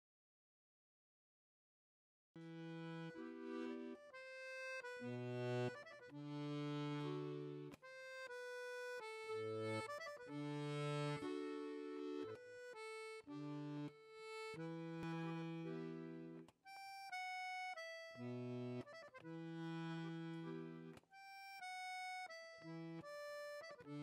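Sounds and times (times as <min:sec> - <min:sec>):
accordion chords over bass notes: 0:02.4 - 0:24.0.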